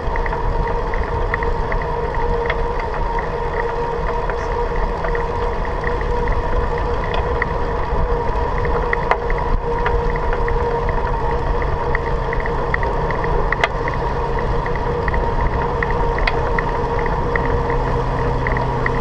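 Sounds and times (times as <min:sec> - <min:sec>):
bicycle tyre and wind rumble: 0:00.0 - 0:19.0
constant hum: 0:00.0 - 0:19.0
light ticking: 0:00.0 - 0:19.0.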